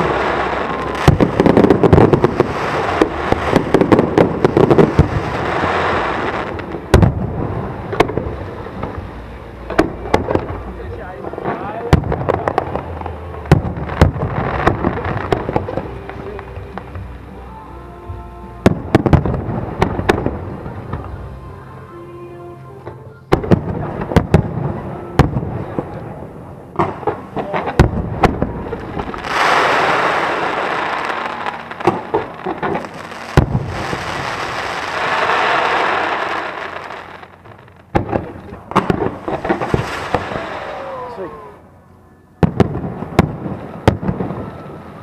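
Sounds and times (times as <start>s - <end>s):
fireworks bangs: 0.0s - 17.3s, 18.6s - 21.2s, 23.3s - 41.6s, 42.4s - 45.0s
fireworks crackling: 0.0s - 17.8s, 18.5s - 22.1s, 23.3s - 41.7s, 42.4s - 45.0s.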